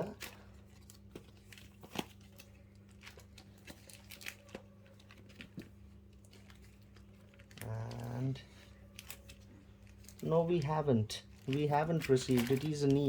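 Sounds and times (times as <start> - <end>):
binder pages crinkling: 0.0 - 13.0.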